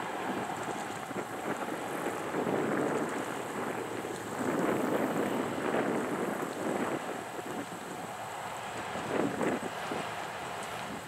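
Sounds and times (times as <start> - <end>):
distant freight train rumbling: 0.0 - 11.0.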